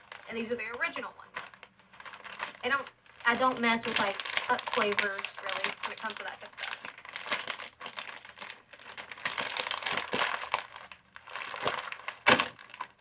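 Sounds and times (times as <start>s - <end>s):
plastic snack bag crinkling: 0.0s - 13.0s.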